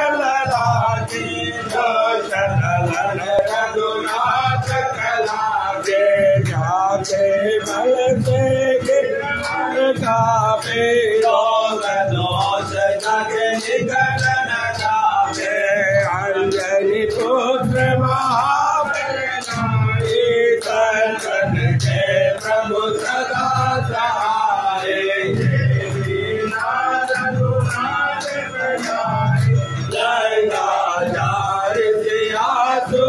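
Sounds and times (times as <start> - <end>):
men singing together: 0.0 - 33.0
sharp percussive strikes: 0.0 - 33.0.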